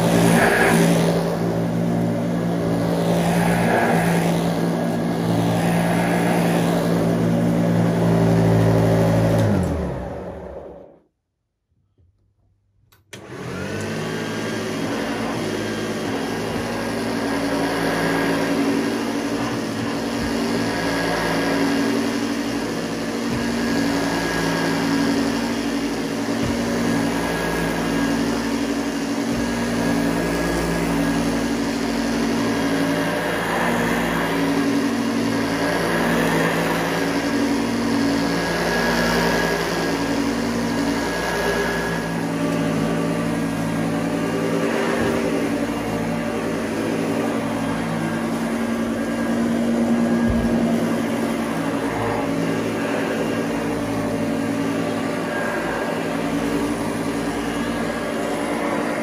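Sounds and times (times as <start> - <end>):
vacuum cleaner running: 0.0 - 11.1, 13.0 - 59.0.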